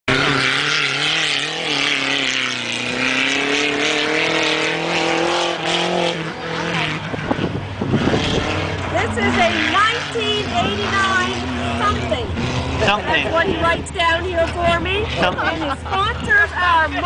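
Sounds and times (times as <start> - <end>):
truck engine running hard: 0.1 - 17.0.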